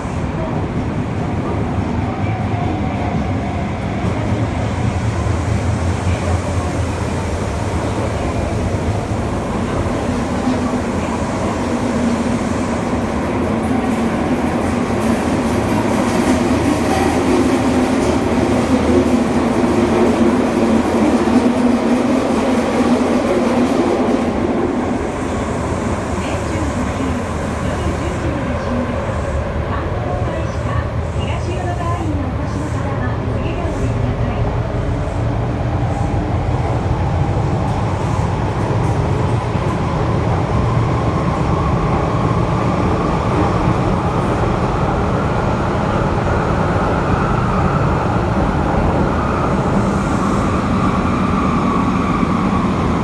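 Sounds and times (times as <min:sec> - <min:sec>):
subway tunnel rumble: 0:00.0 - 0:53.0.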